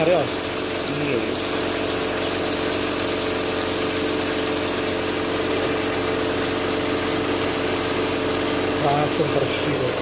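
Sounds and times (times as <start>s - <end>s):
vapor blasting machine humming: 0.0s - 10.0s.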